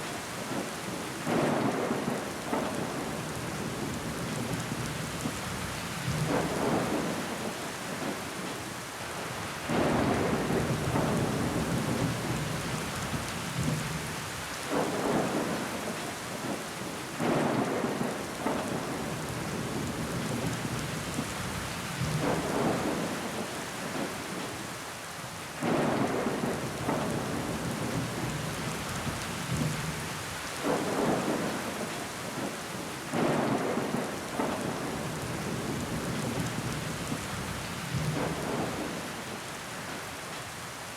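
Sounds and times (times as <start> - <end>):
heavy rain on window glass: 0.0 - 40.9.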